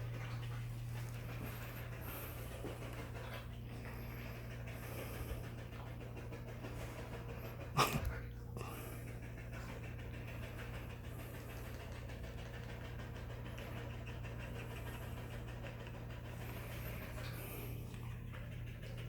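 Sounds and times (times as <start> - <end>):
dogs panting: 0.0 - 19.0
steady low hum: 0.0 - 19.0.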